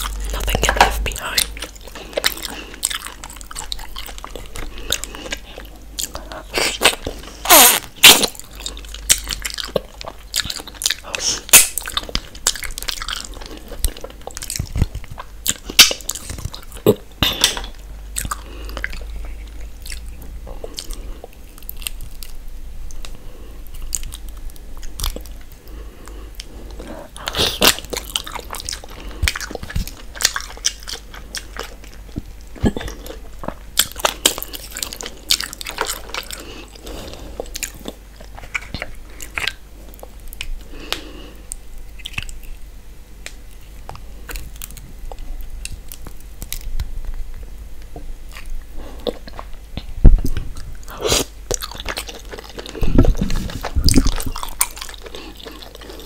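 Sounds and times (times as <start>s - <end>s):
chewing and wet mouth smacks: 0.0s - 42.6s, 43.2s - 56.0s.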